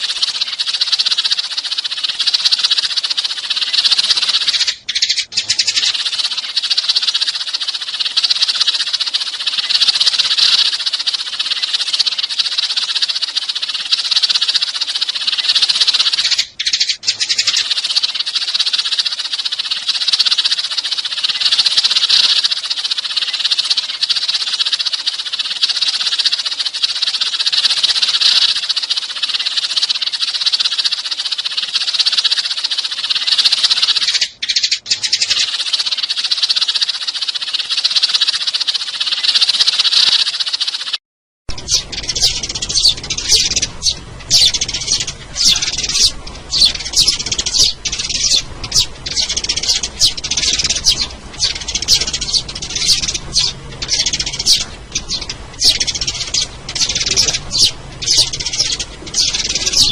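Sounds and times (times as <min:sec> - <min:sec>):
sparrows chirping: 0:00.0 - 0:40.9, 0:41.5 - 0:59.9.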